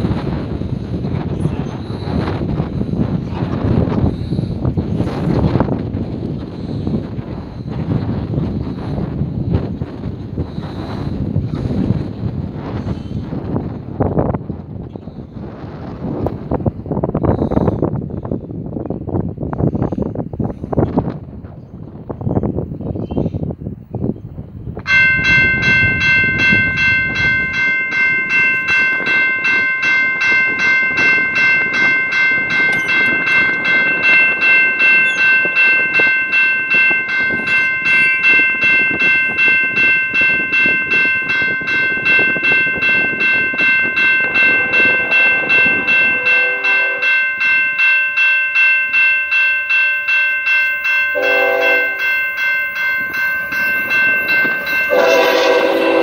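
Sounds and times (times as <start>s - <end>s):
railway crossing bell ringing: 0.0s - 18.3s, 24.8s - 56.0s
freight train low rumble: 0.0s - 56.0s.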